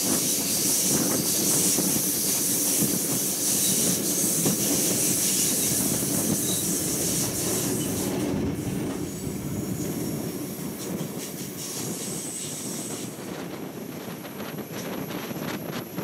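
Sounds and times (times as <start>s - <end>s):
rushing air hiss: 0.0s - 13.3s
train wheels rumbling on rails: 0.0s - 16.0s.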